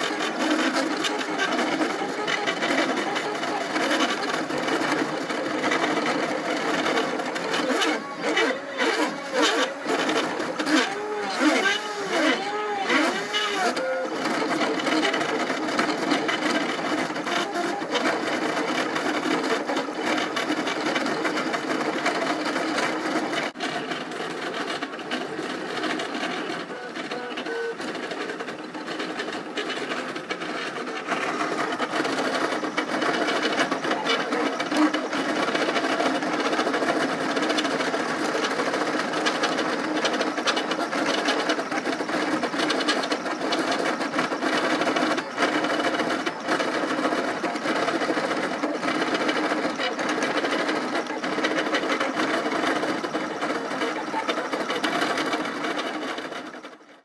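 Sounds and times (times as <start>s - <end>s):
stepper motors whining: 0.0s - 57.0s.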